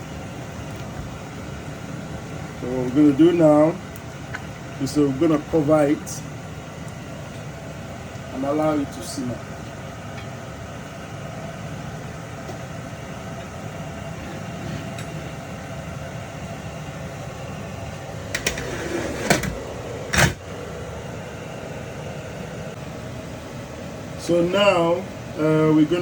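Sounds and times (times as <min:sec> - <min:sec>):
kitchen mechanical hum: 0:00.0 - 0:26.0.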